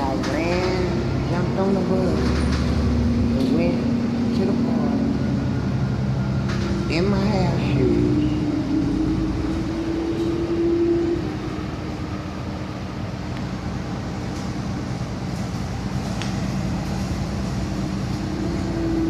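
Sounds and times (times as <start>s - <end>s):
bus engine and road noise: 0.0s - 19.0s
drawn-out whine: 0.0s - 19.0s.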